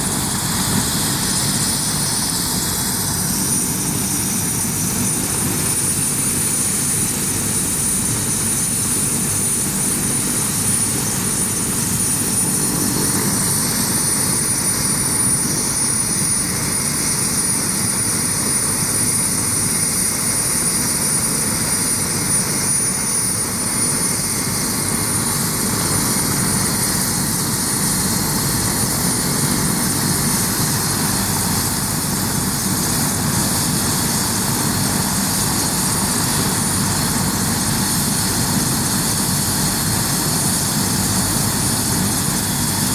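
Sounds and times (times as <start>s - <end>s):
engine and rotor rush: 0.0s - 42.9s
helicopter turbine whine: 0.0s - 42.9s.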